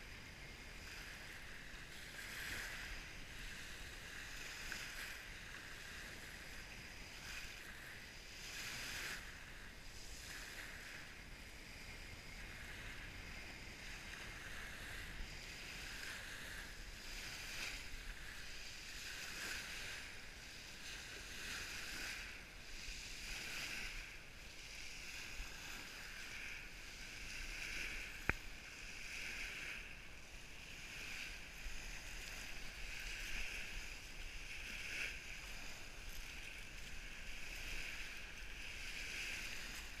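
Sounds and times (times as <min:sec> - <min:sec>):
small waves lapping on pebbles: 0:00.1 - 0:40.0.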